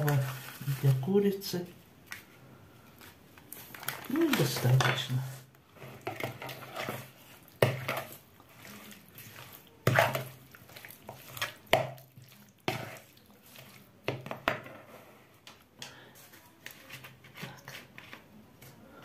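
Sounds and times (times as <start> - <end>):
spoon scraping and wet stirring: 0.0 - 18.8.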